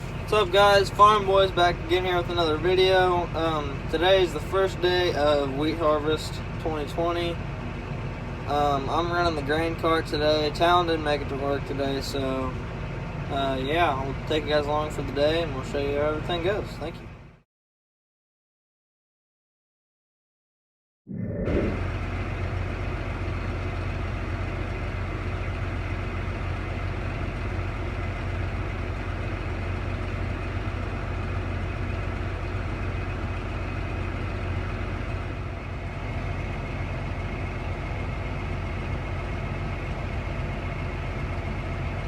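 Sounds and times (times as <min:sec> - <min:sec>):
tractor diesel engine running: 0:00.0 - 0:17.4, 0:21.6 - 0:42.0.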